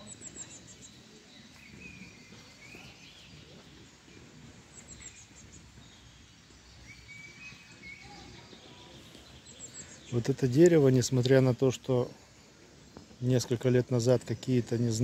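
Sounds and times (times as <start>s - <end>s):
songbirds calling: 0.0s - 15.0s
steady low background noise: 0.0s - 15.0s.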